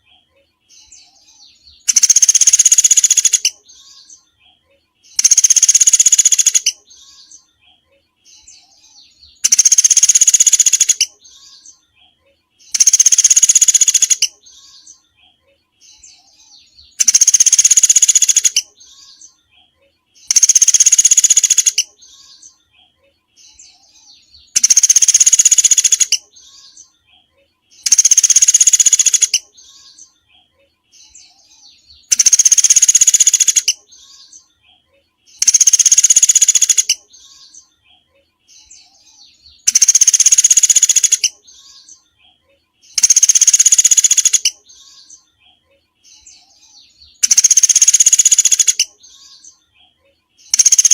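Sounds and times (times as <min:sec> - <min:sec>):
songbird high-pitched trills: 0:00.0 - 0:22.7, 0:23.4 - 0:27.1, 0:27.8 - 0:30.4, 0:31.0 - 0:34.6, 0:35.3 - 0:37.9, 0:38.5 - 0:45.4, 0:46.1 - 0:49.8, 0:50.4 - 0:50.9
soft bird chirps: 0:00.0 - 0:50.9.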